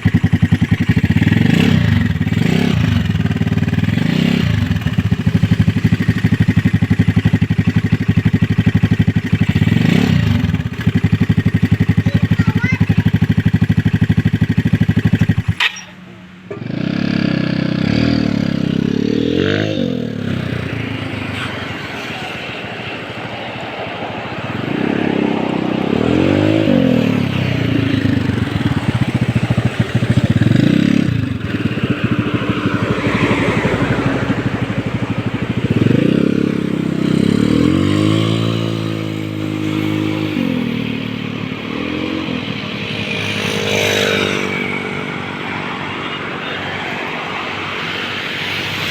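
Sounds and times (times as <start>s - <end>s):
scooter engine revving: 0.0s - 46.6s, 47.2s - 48.9s.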